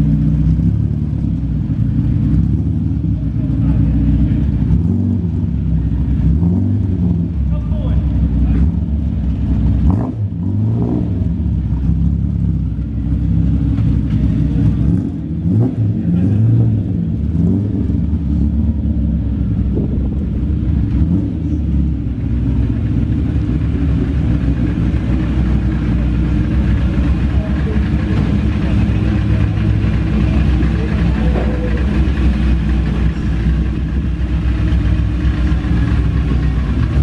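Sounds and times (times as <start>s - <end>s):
sports car engine revving: 0.0s - 37.0s.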